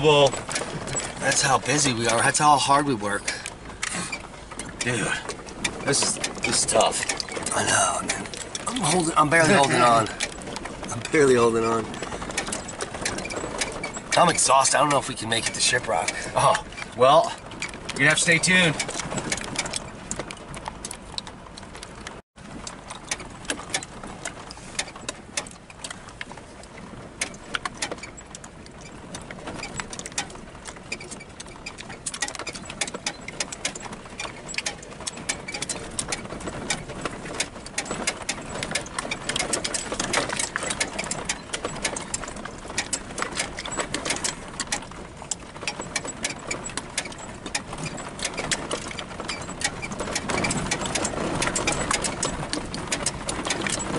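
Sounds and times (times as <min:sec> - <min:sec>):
tyres crunching on gravel: 0:00.0 - 0:53.9
vehicle body rattling: 0:00.0 - 0:53.9
vehicle engine running: 0:00.0 - 0:53.9.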